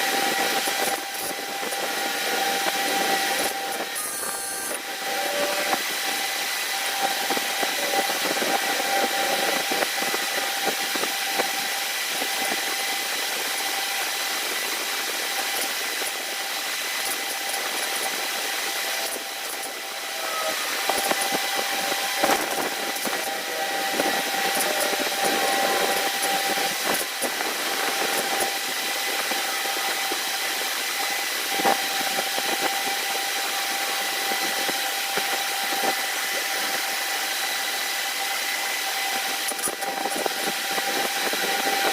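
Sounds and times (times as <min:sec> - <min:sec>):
hiss: 0:00.0 - 0:41.9
machine whine: 0:00.0 - 0:41.9.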